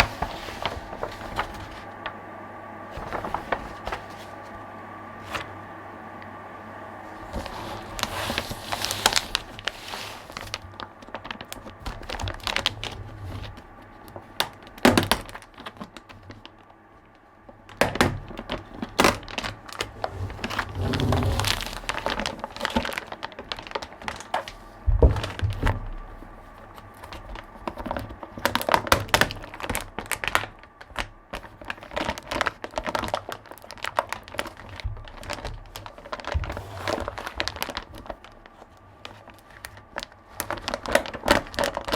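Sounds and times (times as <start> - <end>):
wrapping crinkling: 0.0 - 2.2, 2.9 - 4.6, 7.1 - 41.9.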